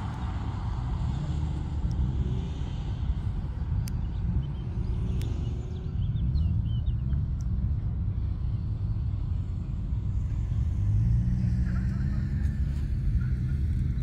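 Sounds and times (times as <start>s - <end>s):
distant car engine: 0.0s - 14.0s
steady low rumble: 0.0s - 14.0s.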